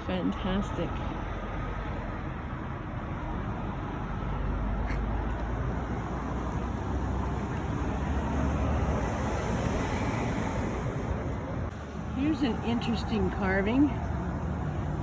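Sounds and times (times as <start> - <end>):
rumble of passing vehicles: 0.0 - 15.0.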